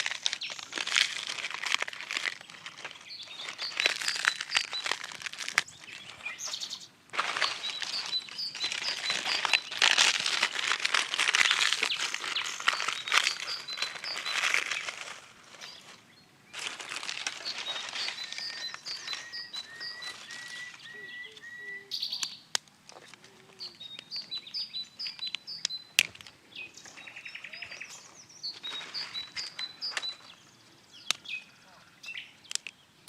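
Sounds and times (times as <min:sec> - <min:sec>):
crackling rustling hiss: 0:00.0 - 0:21.4, 0:22.0 - 0:31.4
small birds chirping: 0:00.0 - 0:33.0.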